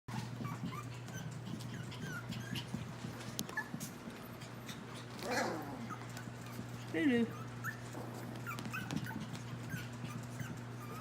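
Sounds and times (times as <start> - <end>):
puppies squeaking and whimpering: 0.1 - 11.0
steady low hum: 0.1 - 11.0.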